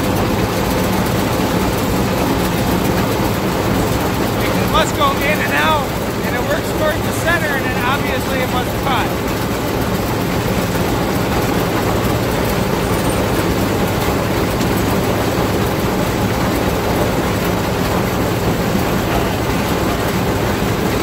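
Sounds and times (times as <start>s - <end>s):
round baler running: 0.0s - 21.0s
tractor engine running: 0.0s - 21.0s.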